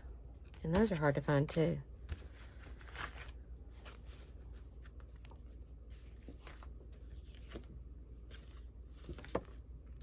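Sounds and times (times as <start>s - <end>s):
low steady hum: 0.0s - 10.0s
cards rustling: 0.4s - 10.0s.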